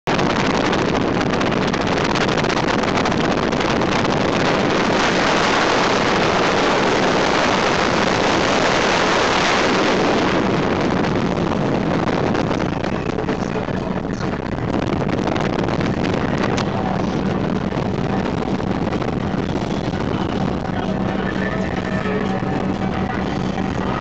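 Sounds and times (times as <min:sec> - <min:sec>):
boat engine: 0:00.0 - 0:24.0
wind on microphone: 0:00.0 - 0:24.0
water against hull: 0:00.1 - 0:24.0.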